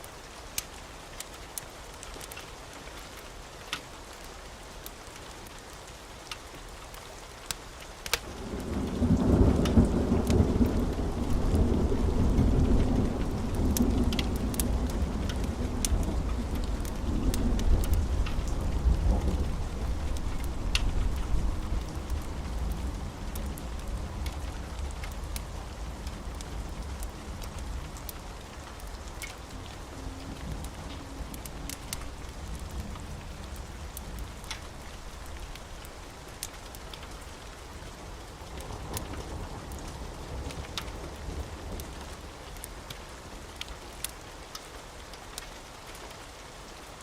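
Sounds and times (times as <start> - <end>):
wood fire crackling: 0.0 - 46.7.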